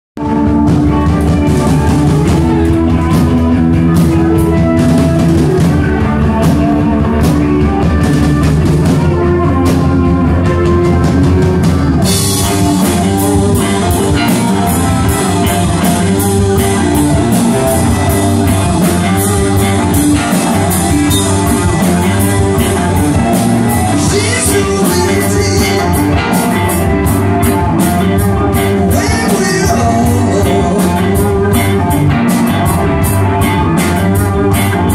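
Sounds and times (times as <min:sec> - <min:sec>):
live rock band playing: 0:00.2 - 0:34.9.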